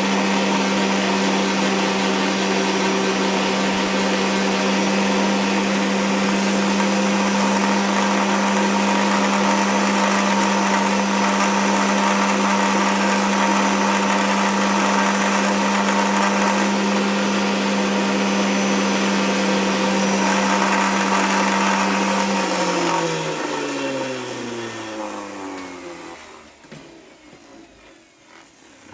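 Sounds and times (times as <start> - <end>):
electric power sander running: 0.0 - 26.8.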